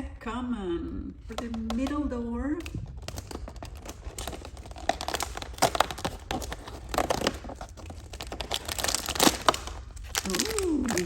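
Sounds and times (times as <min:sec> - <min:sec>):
cardboard and paper crinkling: 0:01.2 - 0:11.0.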